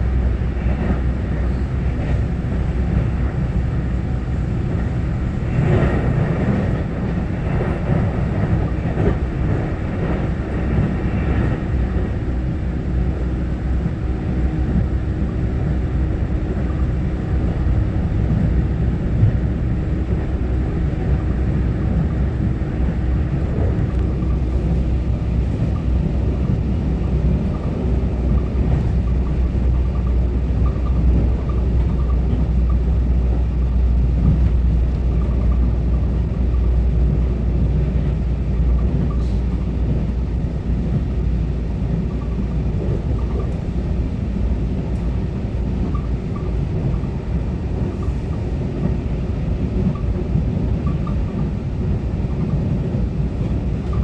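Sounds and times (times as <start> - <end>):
train rumbling along the line: 0.0 - 54.0.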